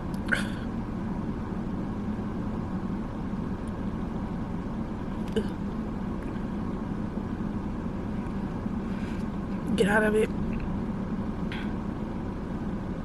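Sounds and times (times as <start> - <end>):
low hum inside car cabin: 0.0 - 13.0.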